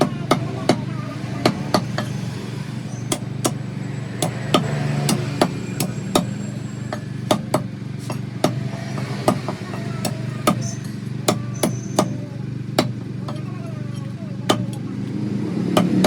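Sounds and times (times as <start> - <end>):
cleaver chopping chicken: 0.0 - 13.5, 14.5 - 16.0.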